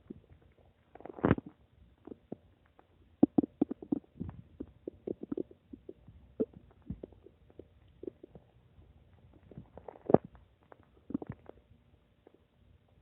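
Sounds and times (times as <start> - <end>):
stomach gurgling and rumbling: 0.0 - 13.0.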